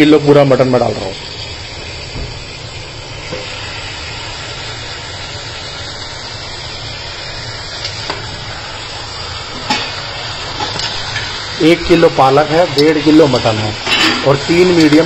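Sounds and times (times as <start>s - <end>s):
meat and onions sizzling: 0.0s - 15.0s.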